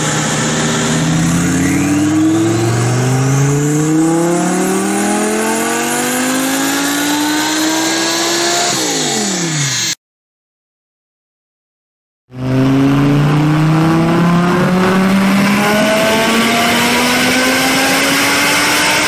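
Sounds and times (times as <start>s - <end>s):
car engine revving at full throttle: 0.0s - 10.0s, 12.3s - 19.0s.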